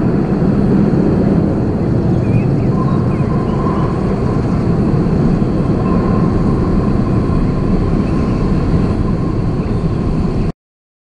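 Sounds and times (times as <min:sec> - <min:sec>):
jet engines rumbling: 0:00.0 - 0:10.5.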